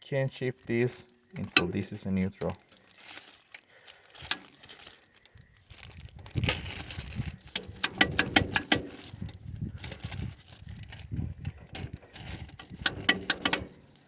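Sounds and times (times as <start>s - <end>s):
gear-shift metal clicking and rattling: 1.2s - 2.8s, 4.2s - 14.0s.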